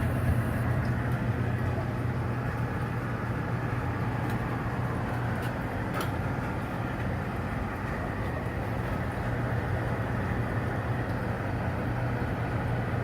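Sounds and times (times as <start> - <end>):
furnace humming: 0.0 - 13.0
humidifier rushing noise: 0.0 - 13.0.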